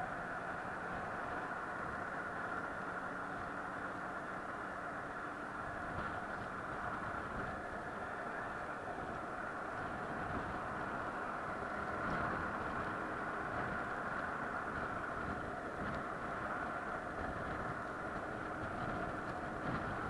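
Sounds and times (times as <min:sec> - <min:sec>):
moving vehicle hum and rumble: 0:00.0 - 0:20.0.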